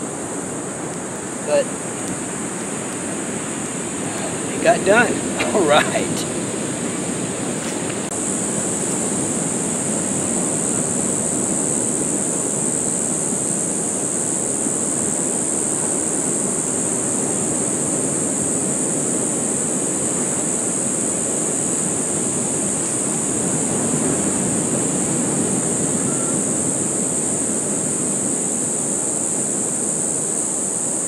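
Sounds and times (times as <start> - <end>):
surf rushing: 0.0 - 30.2
high-pitched hiss: 0.0 - 31.0
wind: 0.0 - 31.0.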